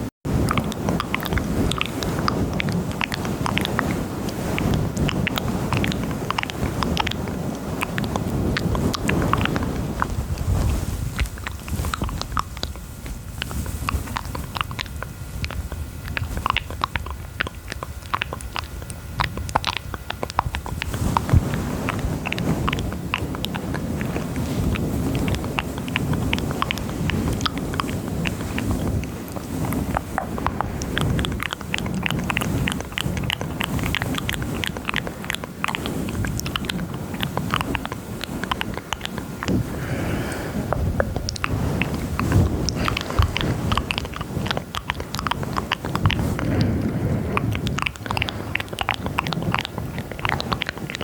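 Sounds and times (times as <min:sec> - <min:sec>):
wet mouth clicks and smacks: 0:00.4 - 0:51.0.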